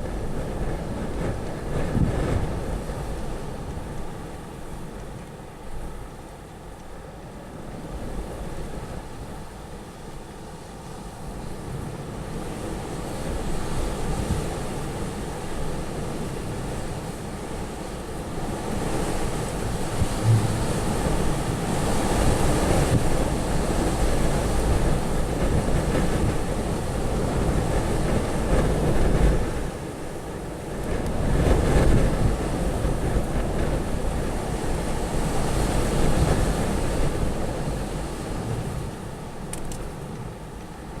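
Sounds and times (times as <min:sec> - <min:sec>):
wind buffeting microphone: 0:00.0 - 0:06.0, 0:10.8 - 0:40.4
strong gusting wind: 0:00.0 - 0:41.0.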